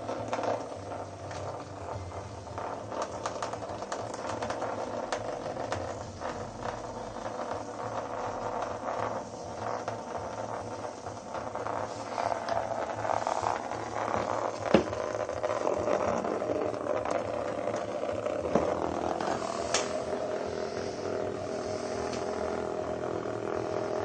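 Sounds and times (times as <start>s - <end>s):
vibrating bug toys buzzing: 0.0s - 24.0s.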